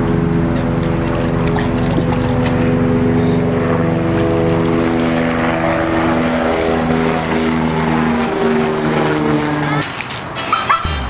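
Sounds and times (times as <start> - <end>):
low hum: 0.0 - 9.8.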